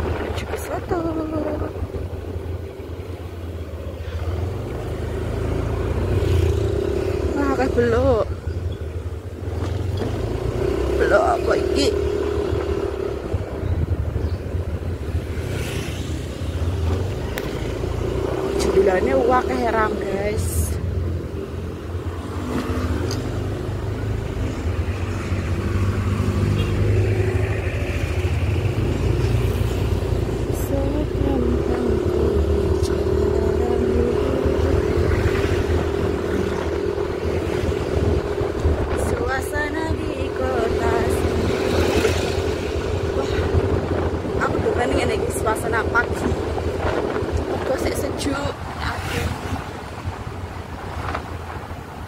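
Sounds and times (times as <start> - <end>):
wind rushing over microphone: 0.0 - 26.4, 27.0 - 52.0
motorcycle cruising: 0.0 - 52.0
motorcycle passing: 0.0 - 52.0
road noise: 0.0 - 52.0.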